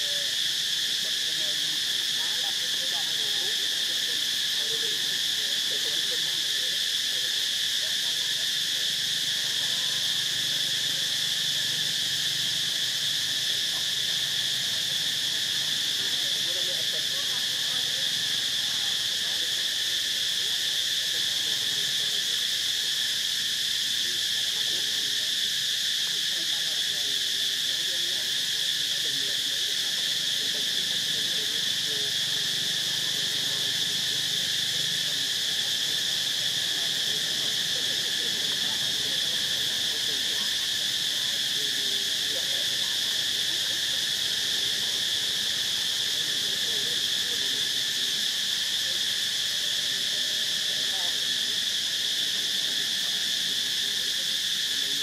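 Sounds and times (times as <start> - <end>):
insect chorus drone: 0.0 - 55.0.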